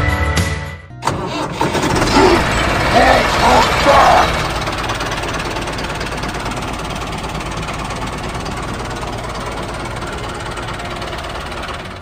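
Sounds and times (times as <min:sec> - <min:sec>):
tractor diesel engine chugging: 0:01.0 - 0:12.0.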